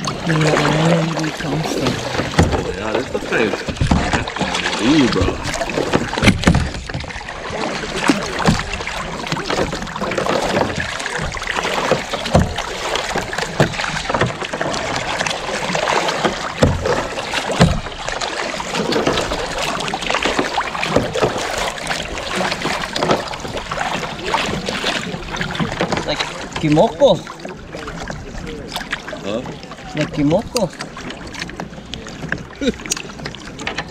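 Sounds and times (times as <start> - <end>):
paddle splashing into water: 0.0 - 33.9
water washing along hull: 0.0 - 33.9.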